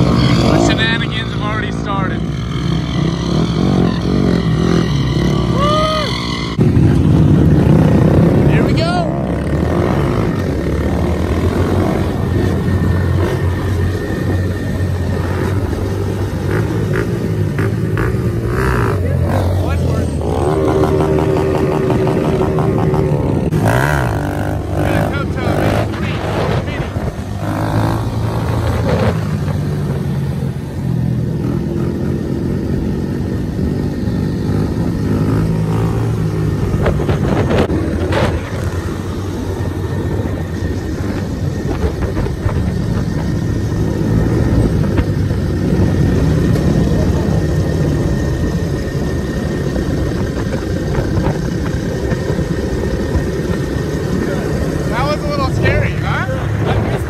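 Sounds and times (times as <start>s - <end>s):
mini motorcycle engines revving: 0.0s - 57.0s.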